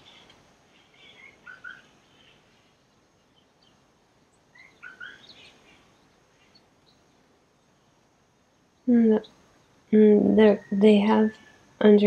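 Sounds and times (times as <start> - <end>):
birds chirping faintly: 0.0 - 12.0
faint steady hiss: 0.0 - 12.0.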